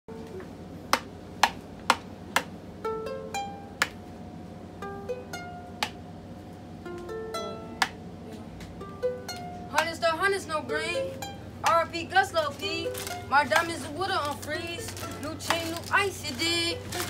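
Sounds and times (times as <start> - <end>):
ukulele plucking slow melody: 0.1 - 17.0.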